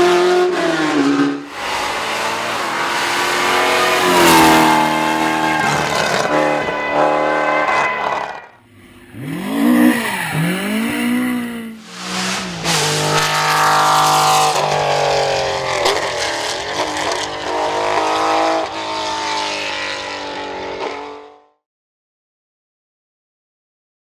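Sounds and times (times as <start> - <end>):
rally car engines revving: 0.0 - 21.6.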